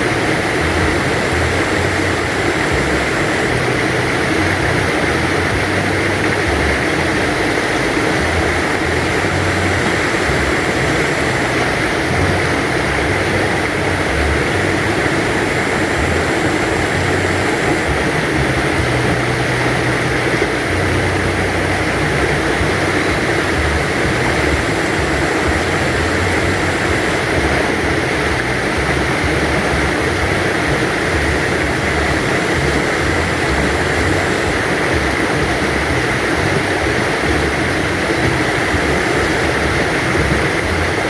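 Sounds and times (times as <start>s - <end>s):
low rumble: 0.0s - 41.0s
stream rushing and babbling: 0.0s - 41.0s.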